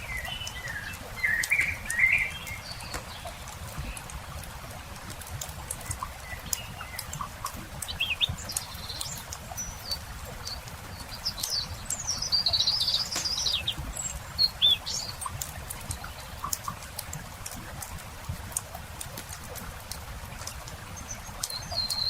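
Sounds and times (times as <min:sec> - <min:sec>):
campfire crackling: 0:00.0 - 0:20.8
songbirds chirping: 0:00.0 - 0:22.0.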